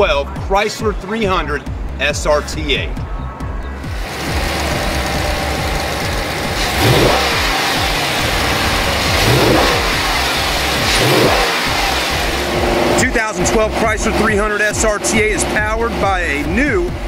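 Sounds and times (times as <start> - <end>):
car engine idling and revving: 2.9 - 17.0.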